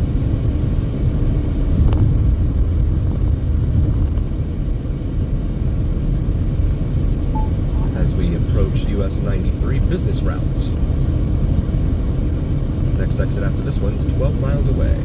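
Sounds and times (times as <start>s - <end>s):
car driving road and engine noise: 0.0s - 15.0s.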